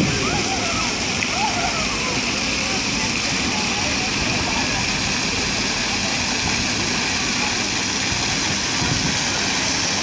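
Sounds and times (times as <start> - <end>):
fountain water splashing: 0.0 - 10.0
low rumble of city traffic: 0.0 - 10.0.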